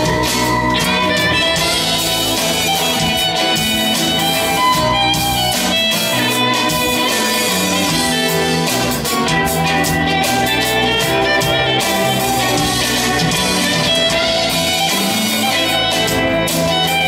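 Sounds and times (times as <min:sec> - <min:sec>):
band playing instrumental: 0:00.0 - 0:17.0
guitar: 0:00.0 - 0:17.0.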